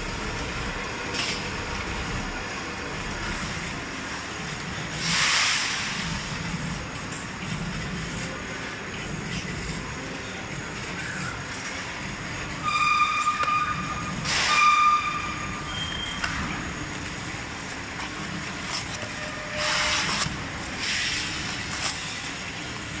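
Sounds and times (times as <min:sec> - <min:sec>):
packaging machine clatter and hum: 0:00.0 - 0:23.0.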